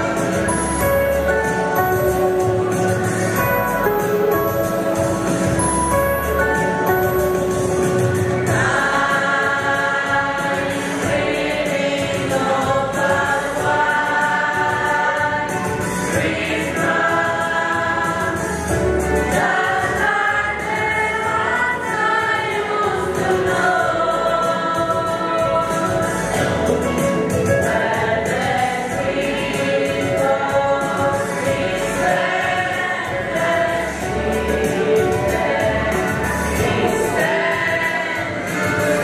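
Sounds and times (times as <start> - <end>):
mixed choir singing in parts: 0.0 - 39.0.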